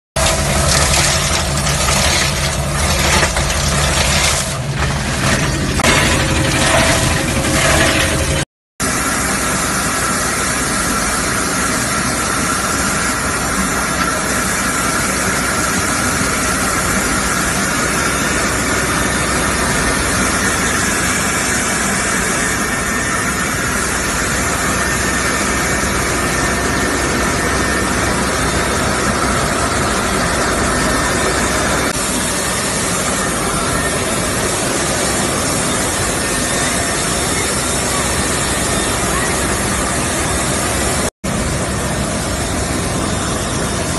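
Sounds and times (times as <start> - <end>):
loud machinery noise: 0.2 - 43.9.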